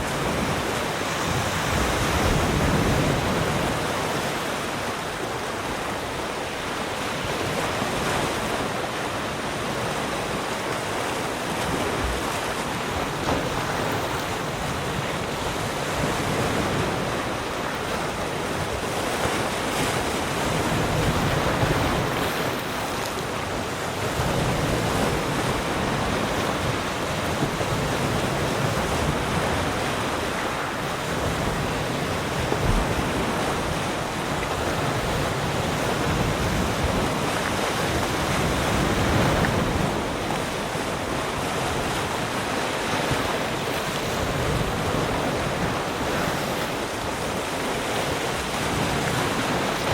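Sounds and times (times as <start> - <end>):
waves breaking on shore: 0.0 - 49.9.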